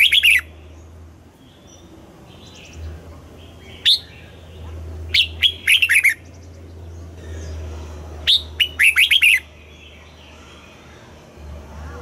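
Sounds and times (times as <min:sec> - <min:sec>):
bird singing: 0:00.0 - 0:11.6.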